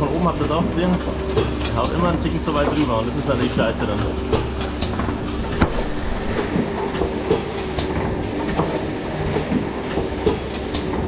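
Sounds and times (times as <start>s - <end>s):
machine mechanical hum: 0.0s - 11.0s.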